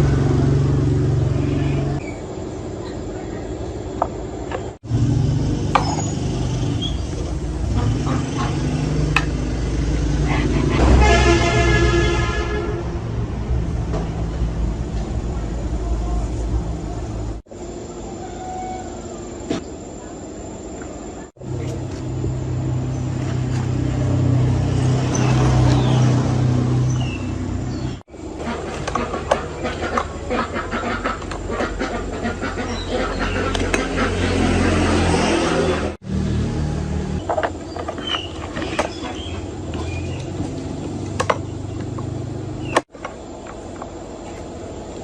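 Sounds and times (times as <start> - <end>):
engine running: 0.0 - 17.8, 21.4 - 45.0.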